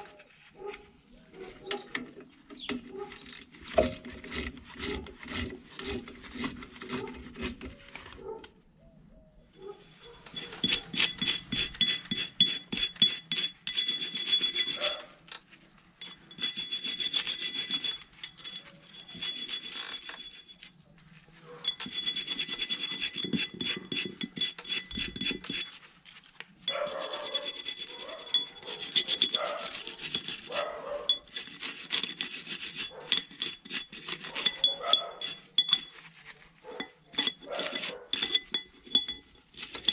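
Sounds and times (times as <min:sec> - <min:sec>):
metal rod clinking and scraping: 0:01.7 - 0:07.7, 0:09.9 - 0:15.4, 0:16.0 - 0:20.9, 0:21.6 - 0:25.8, 0:26.6 - 0:39.9
wire brush scrubbing metal: 0:03.0 - 0:07.6, 0:10.2 - 0:15.2, 0:16.0 - 0:20.8, 0:21.6 - 0:26.0, 0:26.6 - 0:39.9.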